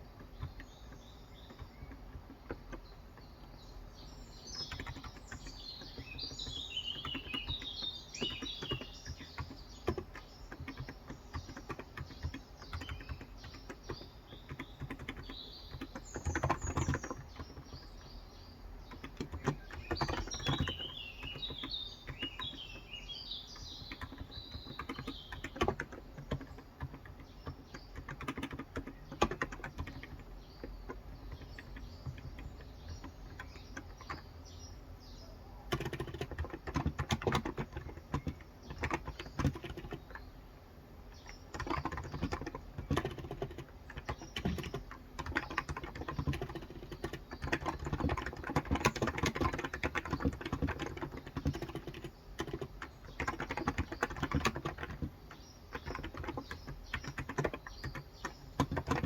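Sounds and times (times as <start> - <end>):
keyboard typing: 0.0 - 18.0, 18.8 - 34.4, 35.6 - 40.2, 41.1 - 59.0
birds chirping: 0.0 - 59.0.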